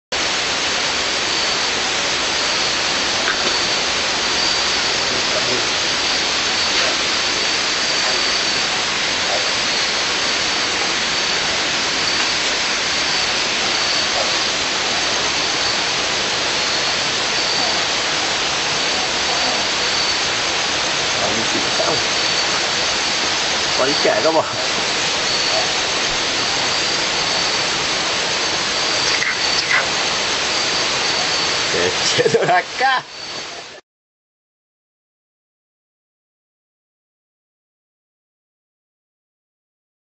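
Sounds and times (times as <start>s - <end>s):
dense rainforest hiss: 0.2s - 33.8s
night insects whine: 0.2s - 33.8s.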